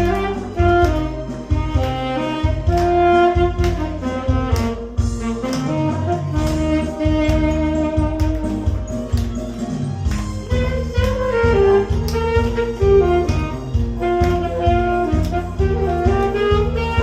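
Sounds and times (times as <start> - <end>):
backing track with bass beat: 0.0 - 17.0
saxophone melody: 0.0 - 17.0.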